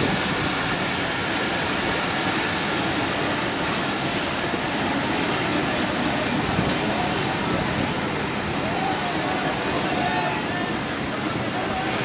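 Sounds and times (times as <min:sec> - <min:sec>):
train coaches rolling on track: 0:00.0 - 0:12.0.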